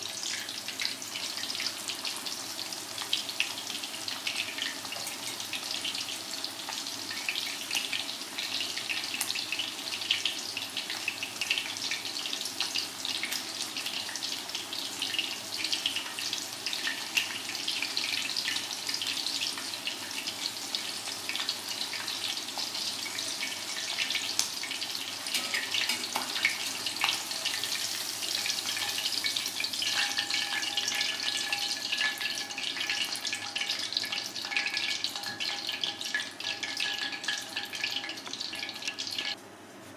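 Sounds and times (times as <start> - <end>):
oil sizzling and crackling: 0.0 - 39.4.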